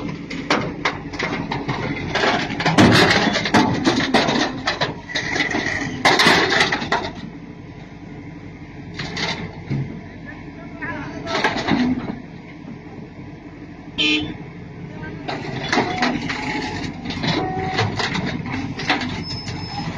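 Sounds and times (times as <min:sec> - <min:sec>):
low engine hum: 0:00.0 - 0:19.9.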